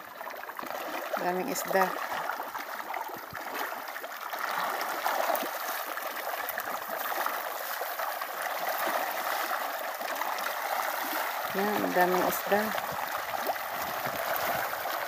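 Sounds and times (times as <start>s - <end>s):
fish splashing in water: 0.0s - 15.0s.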